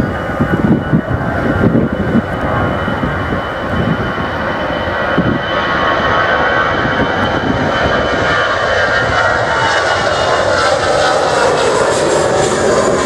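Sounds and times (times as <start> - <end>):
airliner engines running: 0.0 - 13.0.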